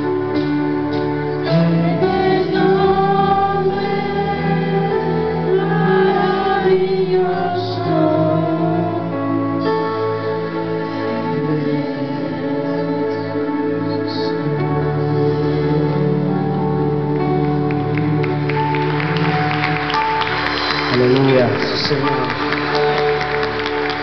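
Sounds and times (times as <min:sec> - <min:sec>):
worship team singing: 0:00.0 - 0:24.0.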